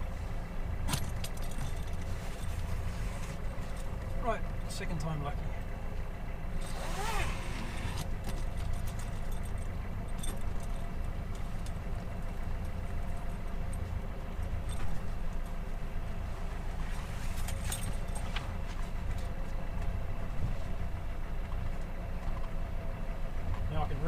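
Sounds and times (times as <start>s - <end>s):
boat engine running at low speed: 0.0s - 24.0s.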